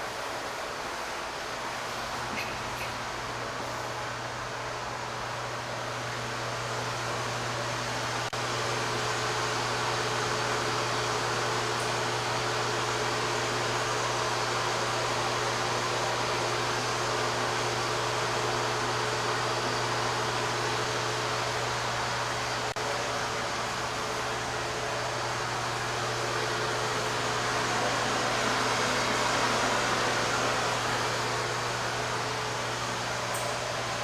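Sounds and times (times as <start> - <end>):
mechanical hum and hiss: 0.0 - 34.0.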